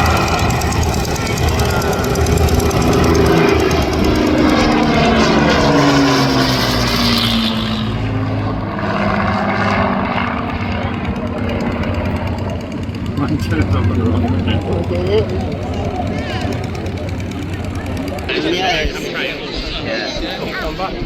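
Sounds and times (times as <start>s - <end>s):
propeller plane flying past: 0.0s - 20.1s.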